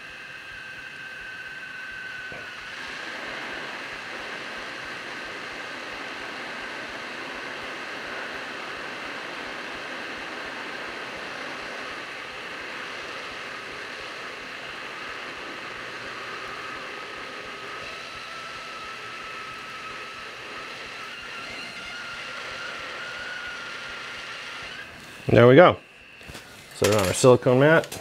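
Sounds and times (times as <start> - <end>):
hot air blower hissing: 0.0 - 28.0.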